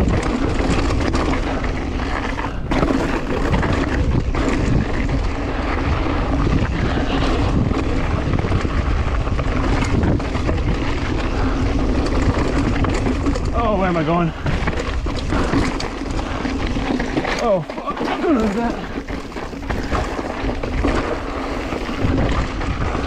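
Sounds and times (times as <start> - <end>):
bike clattering over rocks: 0.0 - 23.0
wind rushing over microphone: 0.0 - 23.0.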